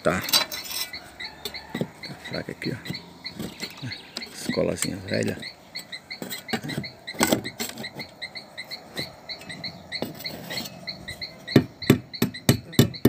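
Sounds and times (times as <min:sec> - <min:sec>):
rapid high chirping call: 0:00.0 - 0:13.0.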